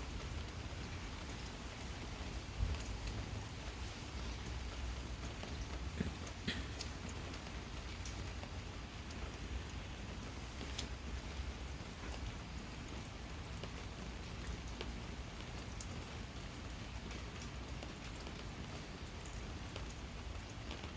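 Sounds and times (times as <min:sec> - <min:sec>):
gentle rain: 0:00.0 - 0:20.9.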